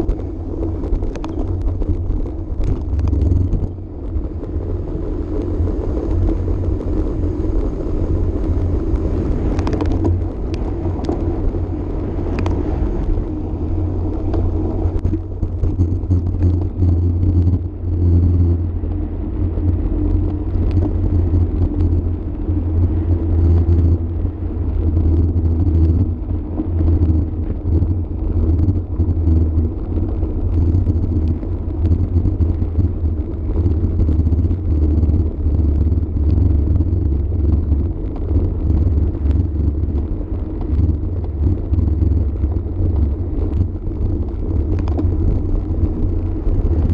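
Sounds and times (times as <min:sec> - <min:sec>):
tyres humming on path: 0:00.0 - 0:46.9
wind buffeting microphone: 0:00.0 - 0:46.9.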